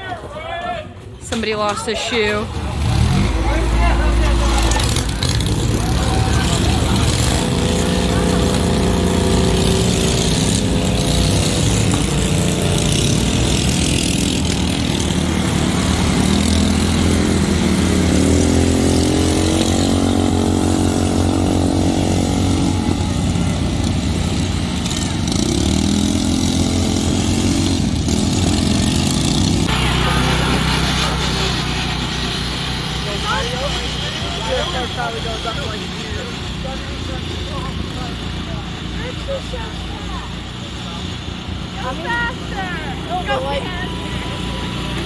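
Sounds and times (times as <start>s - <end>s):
lawn tractor engines revving: 1.0s - 45.0s.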